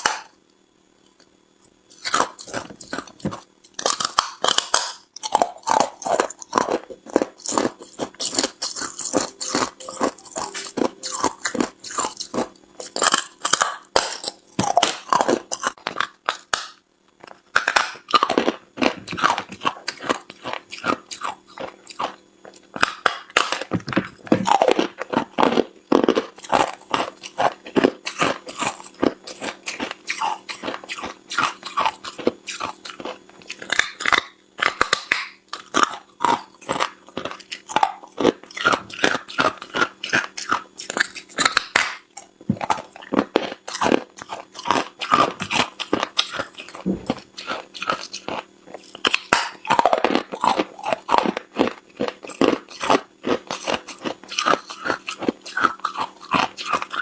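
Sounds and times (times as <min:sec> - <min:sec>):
person chewing ice crunching: 0:01.9 - 0:57.0.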